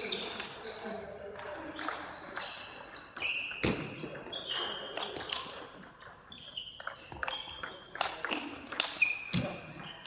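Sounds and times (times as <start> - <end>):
table tennis balls clicking: 0.1 - 10.0.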